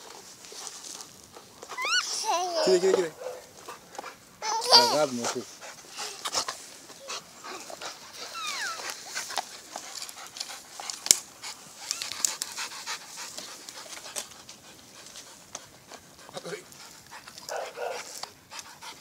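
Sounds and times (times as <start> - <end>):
dog panting hard: 0.5 - 19.0.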